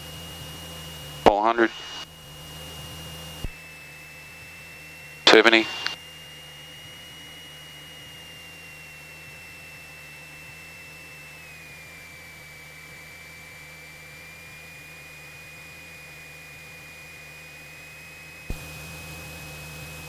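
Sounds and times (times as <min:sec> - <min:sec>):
airplane engine drone in cockpit: 0:00.0 - 0:20.0
high whine: 0:00.0 - 0:20.0.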